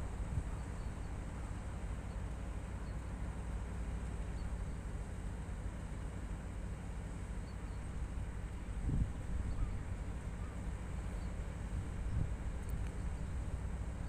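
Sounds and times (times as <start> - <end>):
diesel locomotive engine droning: 0.0 - 14.0.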